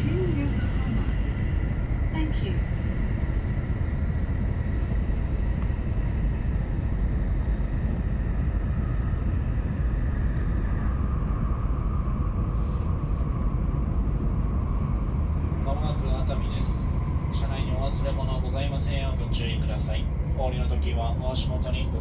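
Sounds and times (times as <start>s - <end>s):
faint steady whine: 0.0s - 22.0s
train cabin rumble: 0.0s - 22.0s.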